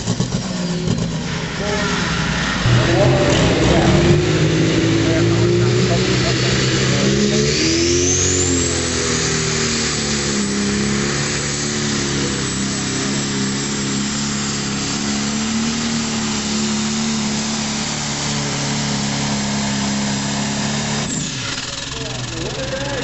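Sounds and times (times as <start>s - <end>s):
high whine: 0.0s - 23.0s
tractor engine at full throttle: 0.0s - 23.0s.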